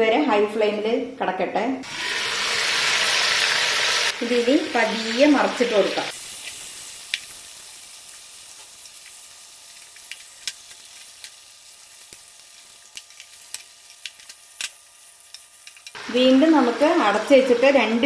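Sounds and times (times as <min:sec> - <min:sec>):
chicken sizzling in oil: 0:01.8 - 0:18.0.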